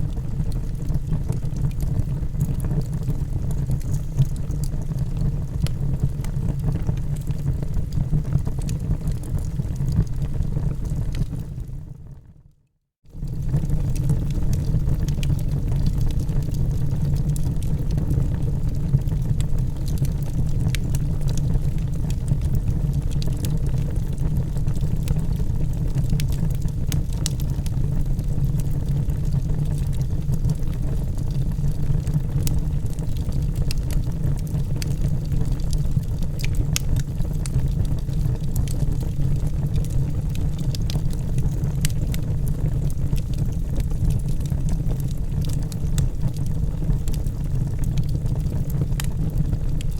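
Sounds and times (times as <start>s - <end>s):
fire rumbling: 0.0s - 12.0s, 13.1s - 49.9s
logs crackling and popping: 0.1s - 11.7s, 13.2s - 49.9s.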